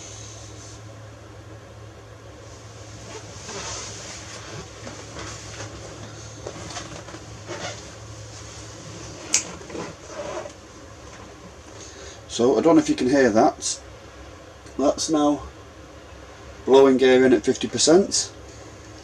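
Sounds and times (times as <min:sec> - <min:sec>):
roof vent fan humming: 0:00.0 - 0:19.0.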